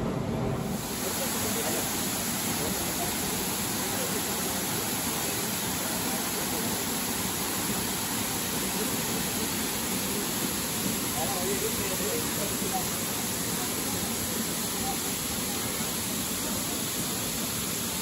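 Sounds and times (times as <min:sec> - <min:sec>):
waterfall rushing: 0:00.7 - 0:18.0.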